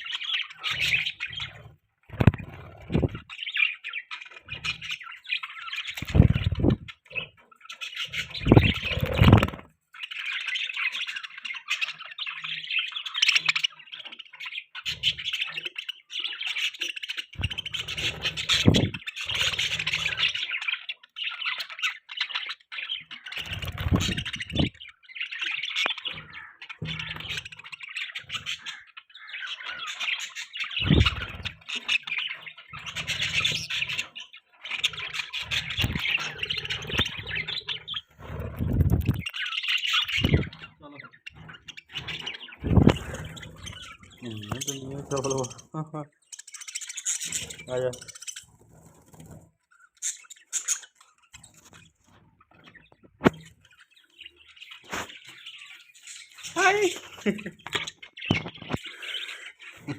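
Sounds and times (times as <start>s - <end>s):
budgerigars chirping and warbling: 0.0s - 59.9s.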